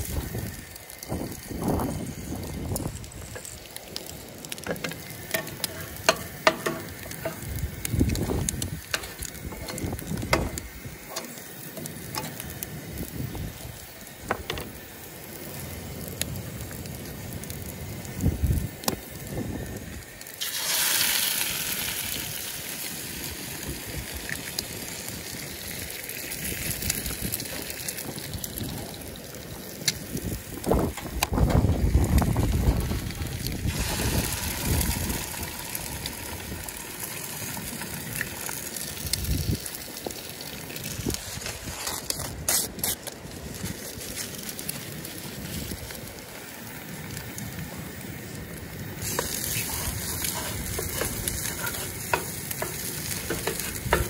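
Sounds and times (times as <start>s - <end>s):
egg sizzling in a hot pan: 0.0s - 54.0s
hot dogs sizzling in a pan: 0.0s - 54.0s.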